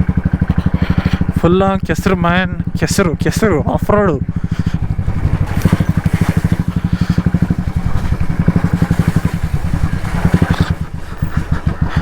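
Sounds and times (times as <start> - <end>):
motorcycle engine thumping: 0.0 - 12.0.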